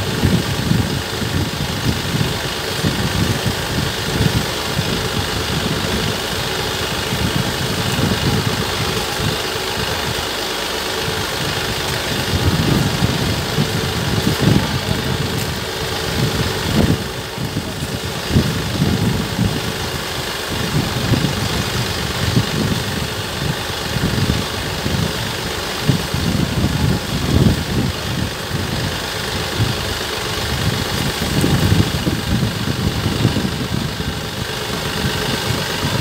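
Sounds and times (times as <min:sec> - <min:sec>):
crop sprayer hiss: 0:00.0 - 0:36.0
tractor engine running: 0:00.0 - 0:36.0.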